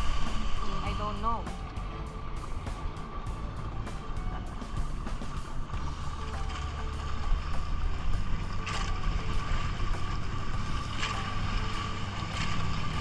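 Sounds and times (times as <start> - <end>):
thin steady whine: 0.0 - 13.0
vehicle engine humming: 0.0 - 13.0.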